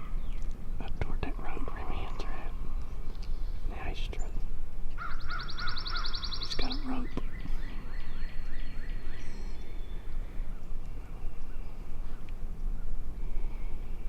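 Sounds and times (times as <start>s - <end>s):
wind rumble on microphone: 0.0s - 14.0s
bird calling: 1.6s - 14.0s.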